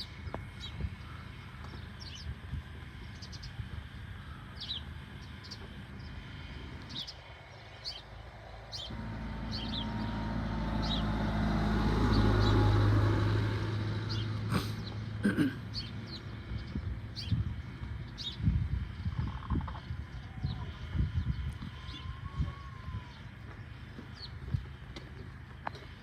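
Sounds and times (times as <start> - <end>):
vehicle engine hum passing: 0.0 - 26.0.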